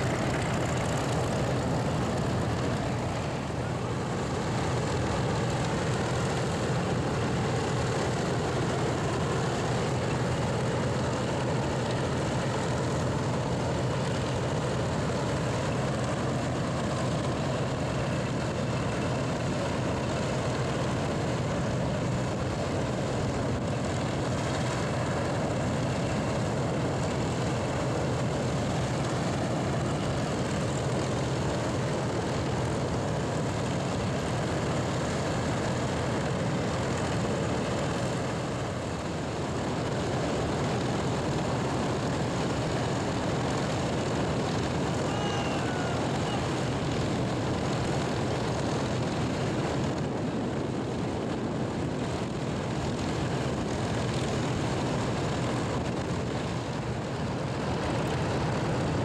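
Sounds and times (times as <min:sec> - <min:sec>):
propeller noise: 0:00.0 - 0:59.0
radial aircraft engine idling: 0:00.0 - 0:59.0.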